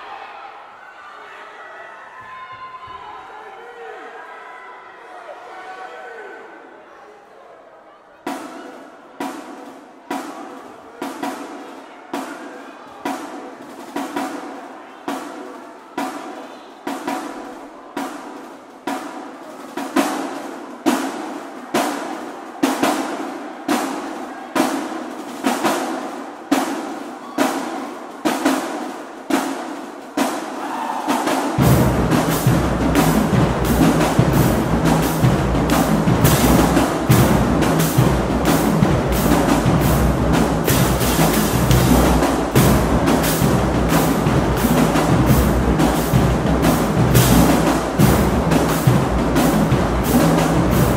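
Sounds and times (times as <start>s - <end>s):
marching drumline: 8.3s - 50.9s.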